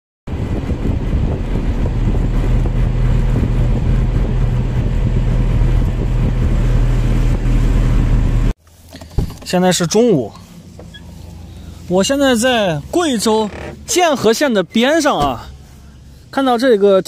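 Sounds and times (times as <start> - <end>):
vehicle engine drone: 0.3 - 16.5
road and wind noise: 0.3 - 17.0.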